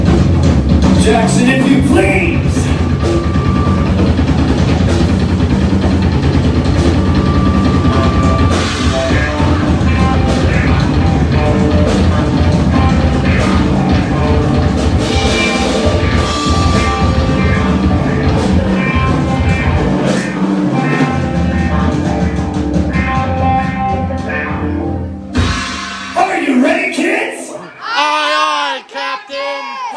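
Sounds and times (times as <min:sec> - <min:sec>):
loud rock music: 0:00.0 - 0:27.8.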